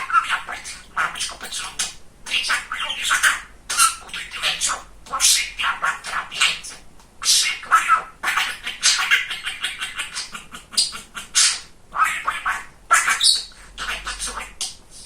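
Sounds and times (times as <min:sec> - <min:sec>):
budgerigar chattering: 0:00.0 - 0:14.8.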